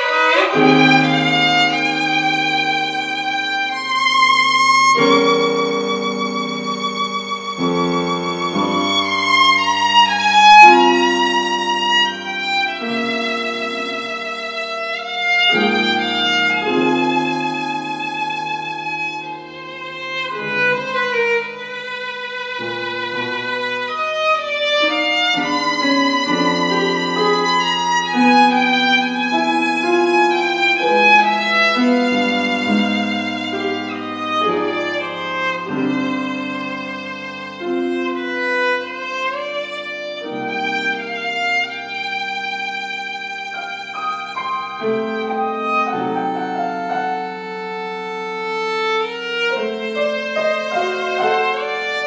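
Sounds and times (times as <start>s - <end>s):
piano accompaniment: 0.0s - 52.0s
violin playing slow melody: 0.0s - 52.0s.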